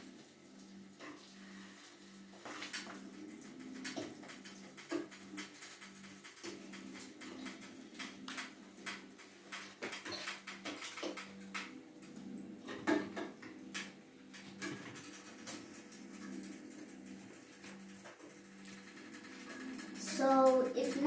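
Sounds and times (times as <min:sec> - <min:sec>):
faint sizzle: 0:00.0 - 0:21.0.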